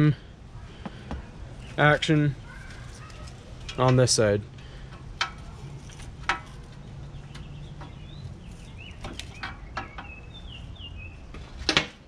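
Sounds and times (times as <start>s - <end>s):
faint bird chirping: 0.2s - 3.8s, 4.6s - 11.3s.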